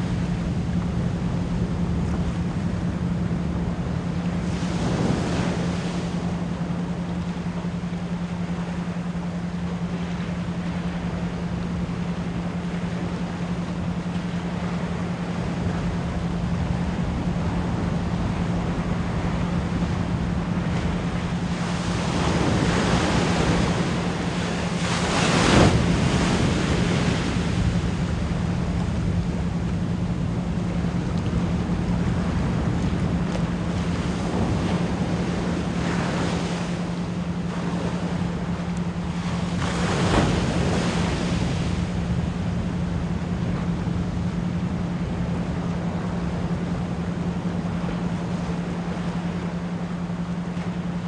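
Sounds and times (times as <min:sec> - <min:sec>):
ocean waves breaking: 0:00.0 - 0:51.0
steady low pure tone: 0:00.0 - 0:51.0.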